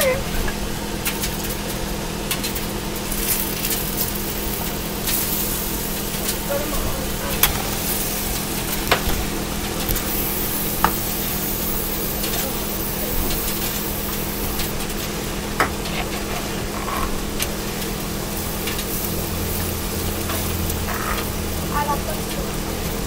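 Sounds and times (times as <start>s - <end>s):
steady low hum: 0.0s - 23.0s
eggs sizzling in a skillet: 1.2s - 23.0s.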